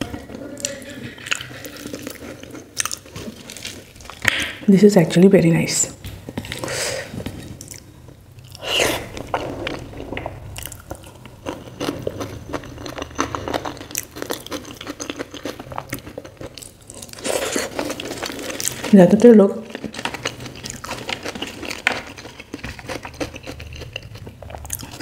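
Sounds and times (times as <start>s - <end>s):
person chewing and smacking: 0.0s - 4.6s, 6.0s - 19.0s, 19.6s - 25.0s.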